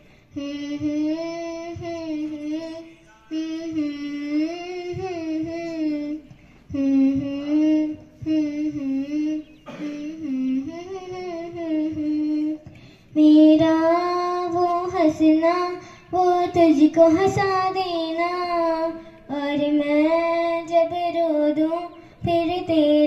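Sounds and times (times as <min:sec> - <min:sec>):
girl singing into a microphone: 0:00.0 - 0:23.0.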